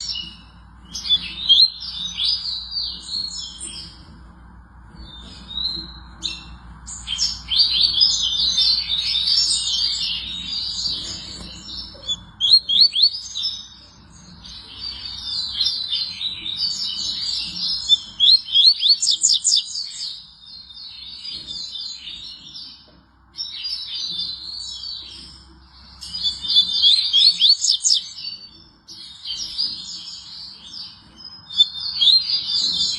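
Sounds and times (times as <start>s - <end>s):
bird singing high twittering: 0.0s - 4.3s, 4.9s - 32.9s.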